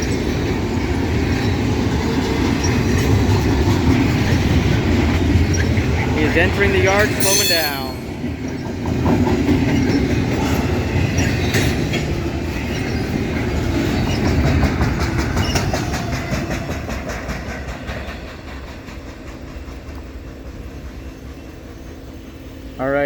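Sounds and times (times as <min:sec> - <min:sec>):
train wheels clattering over rails: 0:00.0 - 0:22.6.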